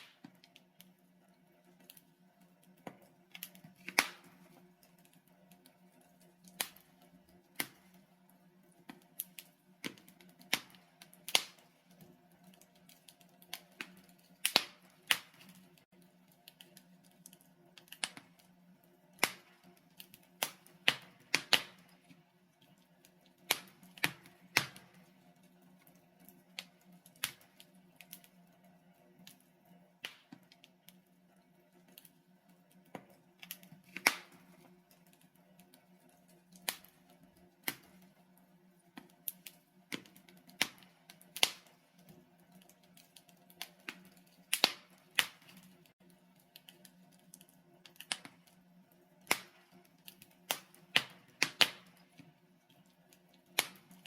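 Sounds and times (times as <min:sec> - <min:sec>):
logs crackling in a fireplace: 0:00.0 - 0:54.0.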